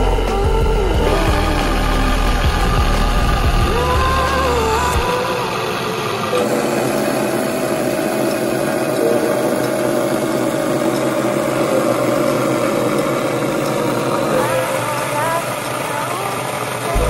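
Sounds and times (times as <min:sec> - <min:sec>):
mini chainsaw running: 0:00.0 - 0:17.0.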